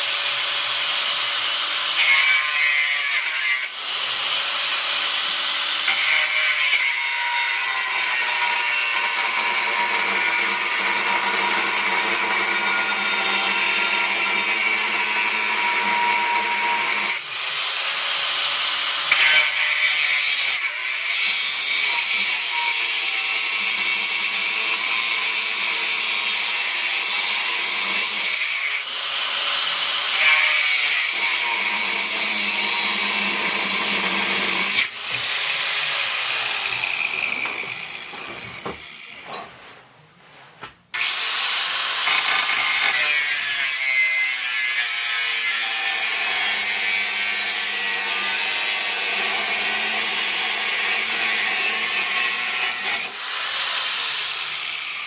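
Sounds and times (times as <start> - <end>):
power tool on steel plate: 0.0 - 39.5, 40.9 - 55.0.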